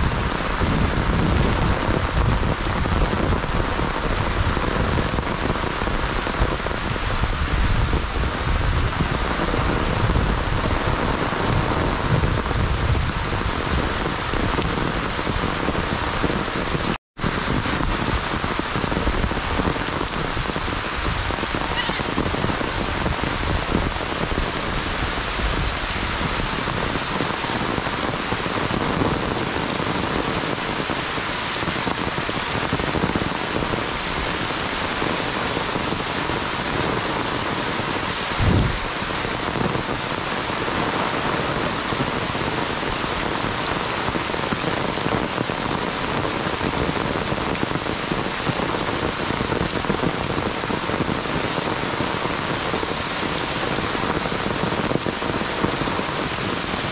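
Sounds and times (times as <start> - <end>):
heavy rain on umbrella: 0.0 - 56.9.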